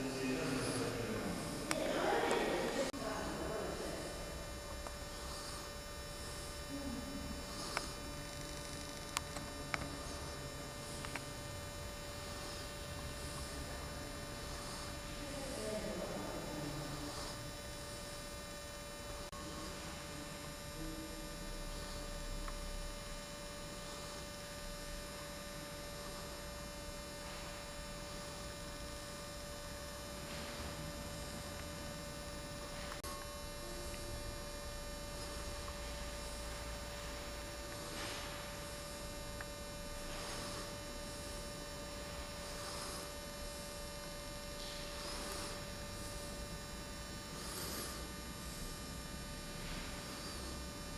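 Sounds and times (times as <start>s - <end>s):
electrical mains hum: 0.0s - 50.9s
mid-pitched whine: 0.0s - 50.9s.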